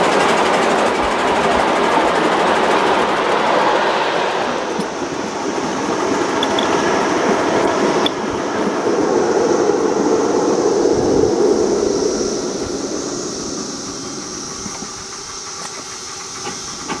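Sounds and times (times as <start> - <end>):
train wheels clattering on rails: 0.0 - 9.7, 12.5 - 17.0.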